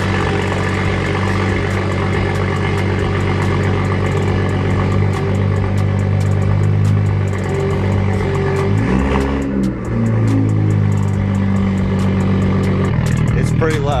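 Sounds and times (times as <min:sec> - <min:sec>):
car engine idling loud drone: 0:00.0 - 0:14.0
fast engine ticking: 0:00.0 - 0:14.0.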